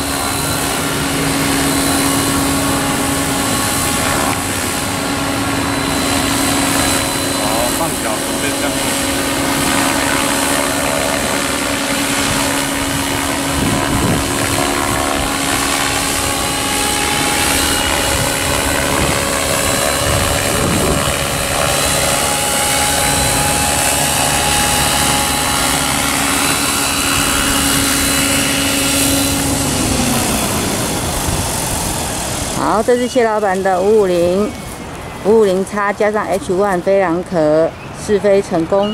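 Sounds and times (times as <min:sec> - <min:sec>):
rotor wash whooshing: 0:00.0 - 0:35.8
model helicopter motor whine: 0:00.0 - 0:37.7.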